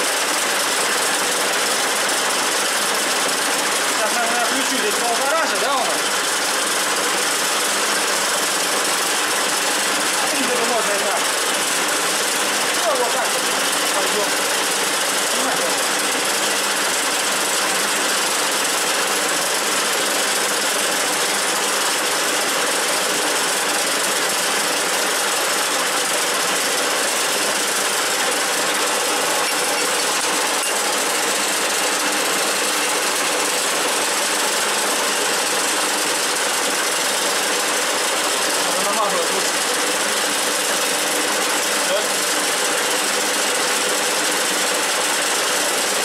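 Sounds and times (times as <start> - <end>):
lathe hum and rattle: 0.0 - 46.0.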